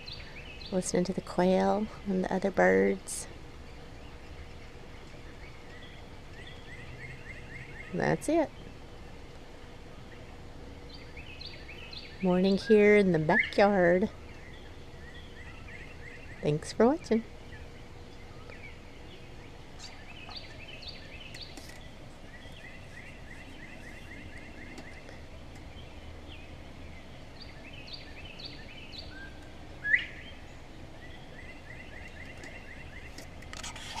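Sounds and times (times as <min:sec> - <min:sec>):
birds chirping and trilling: 0:00.0 - 0:34.0
steady outdoor hush: 0:00.0 - 0:34.0.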